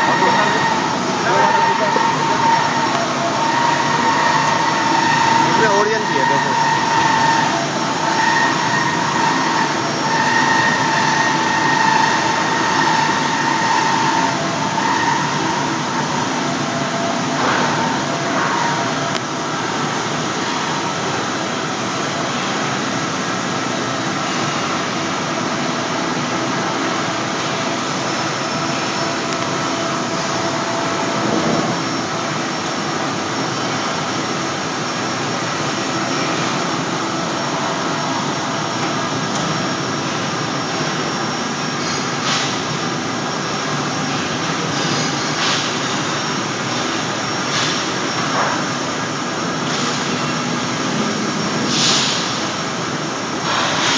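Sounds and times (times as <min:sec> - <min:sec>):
loud mechanical machine noise: 0:00.0 - 0:53.9.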